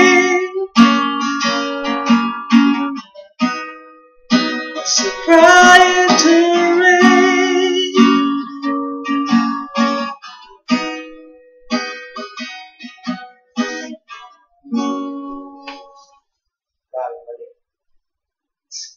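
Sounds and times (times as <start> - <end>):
acoustic guitar playing: 0.0 - 16.4.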